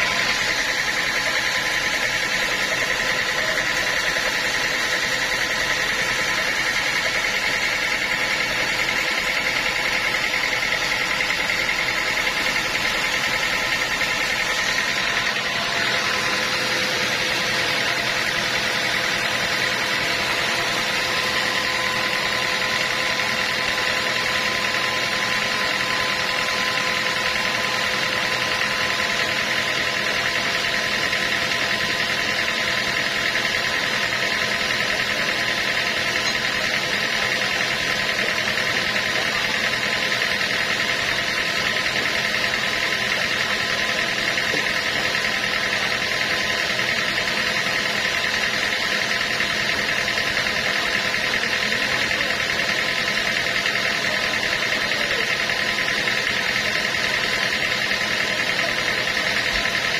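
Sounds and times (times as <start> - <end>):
high mechanical whine: 0.0 - 59.9
sawmill machinery drone: 0.0 - 59.9.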